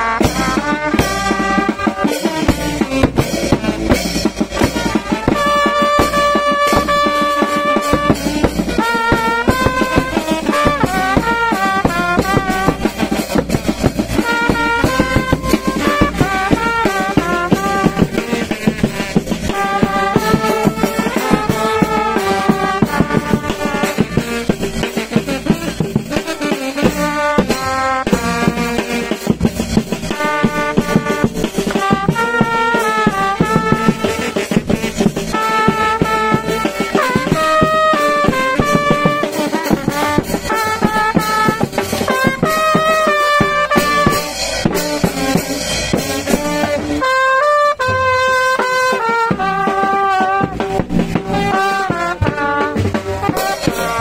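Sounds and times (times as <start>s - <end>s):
brass band playing slow melody: 0.0s - 54.0s
drum beats: 0.0s - 54.0s.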